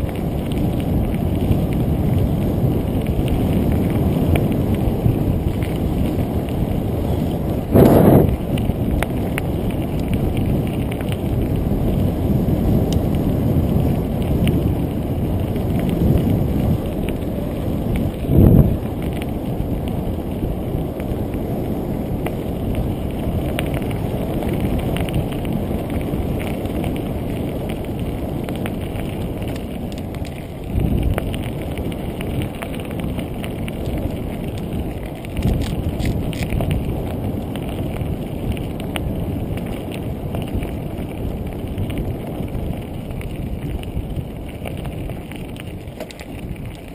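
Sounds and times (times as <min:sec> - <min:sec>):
wind and riding noise rumble: 0:00.0 - 0:46.9.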